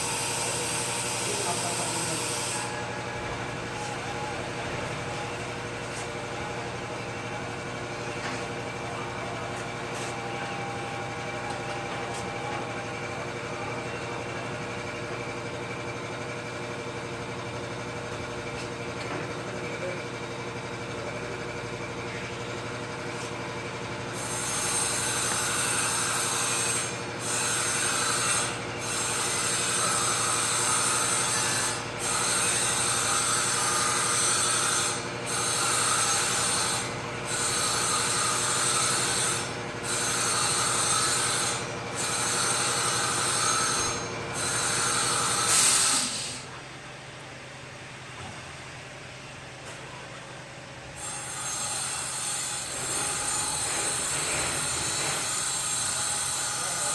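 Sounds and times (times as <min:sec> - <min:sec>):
steady machine hum: 0:00.0 - 0:56.8.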